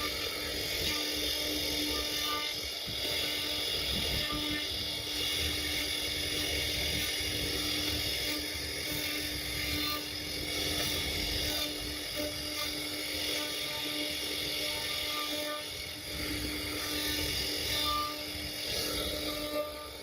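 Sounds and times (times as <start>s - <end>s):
router bit cutting wood: 0.0s - 20.0s
router spindle whine: 0.0s - 20.0s.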